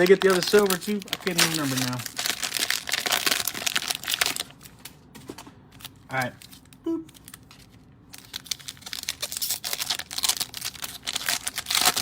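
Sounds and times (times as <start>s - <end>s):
cellophane wrapper crinkling: 0.0s - 12.0s.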